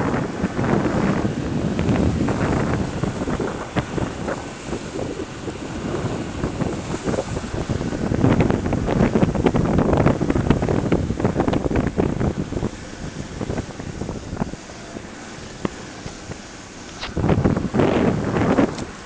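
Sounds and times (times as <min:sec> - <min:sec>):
tyres churning through slush: 0:00.0 - 0:19.0.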